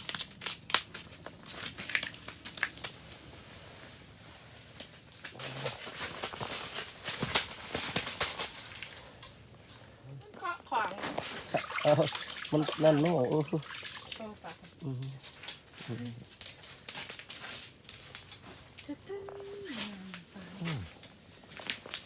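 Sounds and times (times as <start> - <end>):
crinkling: 0.0 - 22.0.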